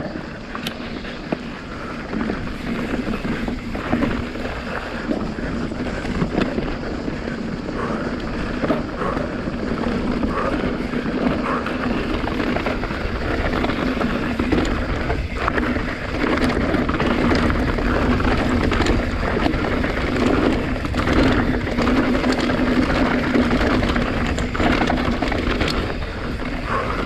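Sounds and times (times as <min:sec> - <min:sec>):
bike knocking and rattling: 0:00.0 - 0:27.0
tyres rolling over stones: 0:00.0 - 0:27.0
wind on microphone: 0:00.0 - 0:27.0.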